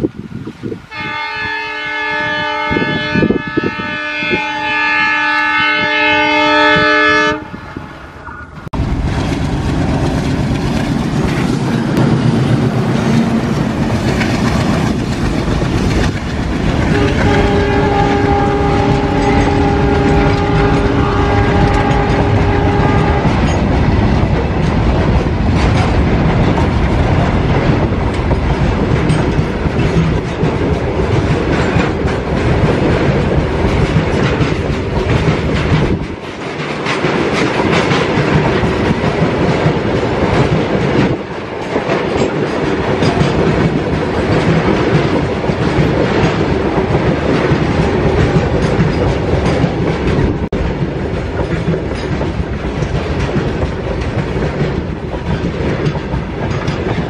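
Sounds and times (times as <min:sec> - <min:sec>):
train wheels clattering over rail joints: 0:08.8 - 0:57.0.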